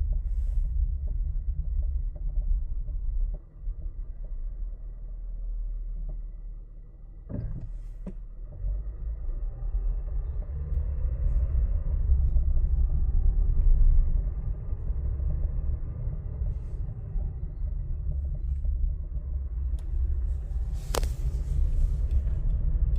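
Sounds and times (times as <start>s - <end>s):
car road rumble: 0.0s - 22.9s
suspension clunk: 0.0s - 22.9s.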